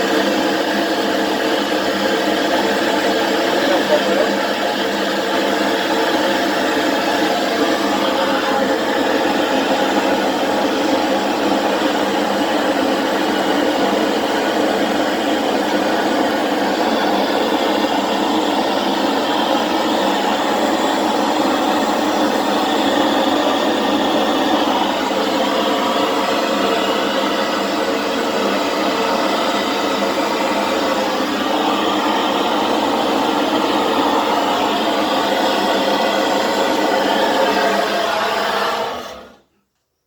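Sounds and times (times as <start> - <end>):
torch flame burning: 0.0 - 39.4.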